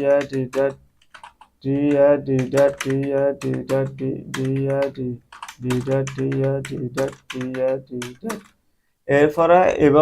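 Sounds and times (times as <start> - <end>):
computer keyboard typing: 0.0 - 8.6.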